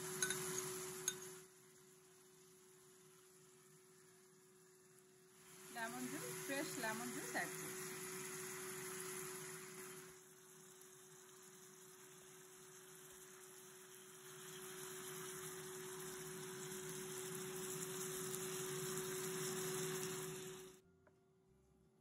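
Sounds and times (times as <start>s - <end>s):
meat sizzling in skillet: 0.0s - 20.8s.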